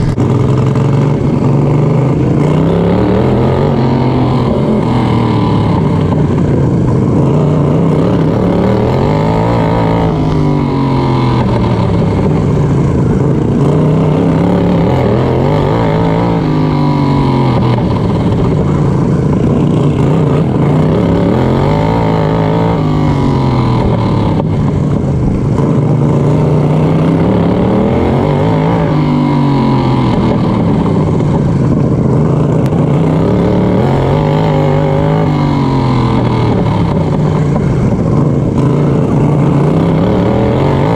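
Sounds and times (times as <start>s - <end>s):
lawn mower engine racing: 0.0s - 40.9s.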